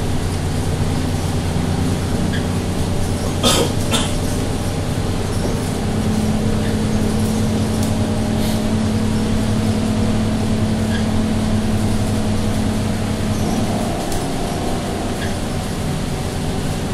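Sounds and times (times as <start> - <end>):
bus diesel engine: 0.0 - 16.9.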